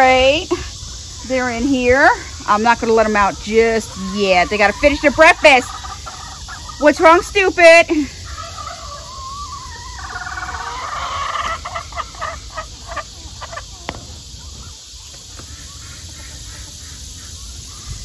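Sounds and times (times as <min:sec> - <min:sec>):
chickens calling: 0:00.0 - 0:18.0
chickens clucking: 0:00.0 - 0:18.0.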